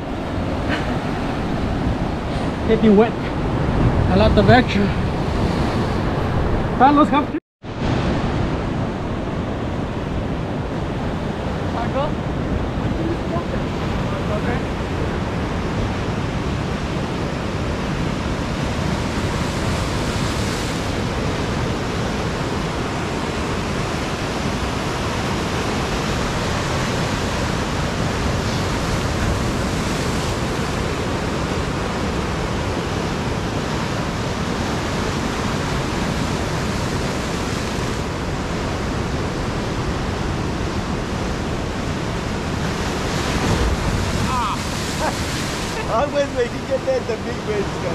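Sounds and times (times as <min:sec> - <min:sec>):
surf washing over rocks: 0:00.0 - 0:47.9
wind on microphone: 0:00.0 - 0:47.9.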